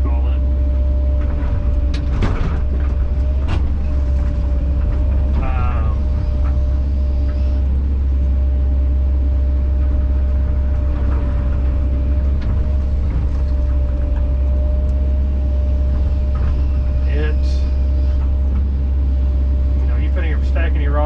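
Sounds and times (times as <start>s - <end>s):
excavator engine drone: 0.0s - 21.0s.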